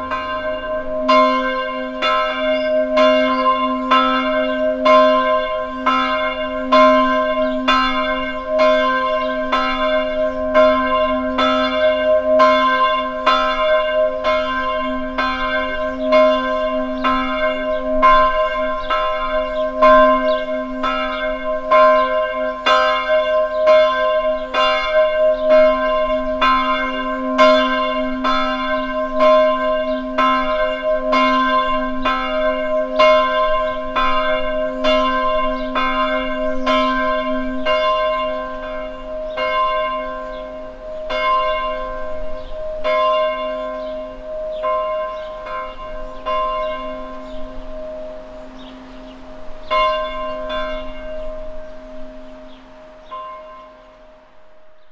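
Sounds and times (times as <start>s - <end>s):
church bells ringing: 0.0s - 54.9s.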